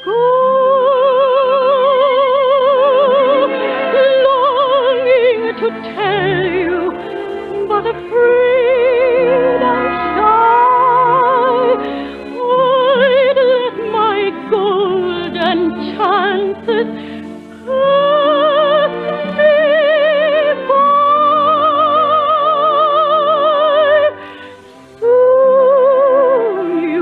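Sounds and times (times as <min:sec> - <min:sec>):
soprano singing with vibrato: 0:00.0 - 0:27.0
orchestral accompaniment: 0:00.8 - 0:25.0.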